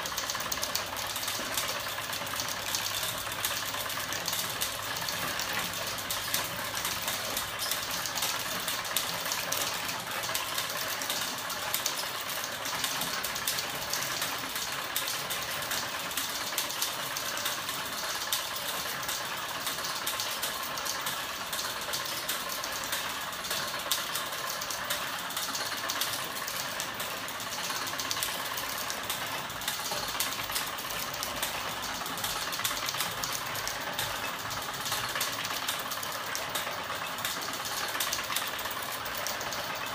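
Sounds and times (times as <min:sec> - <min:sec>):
electric motor mechanical clatter: 0:00.0 - 0:39.9.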